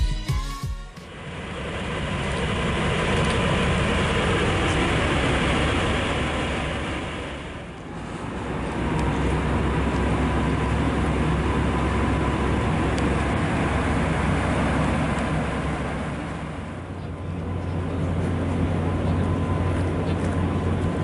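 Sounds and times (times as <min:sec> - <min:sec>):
diesel locomotive engine idling: 0:01.0 - 0:21.0.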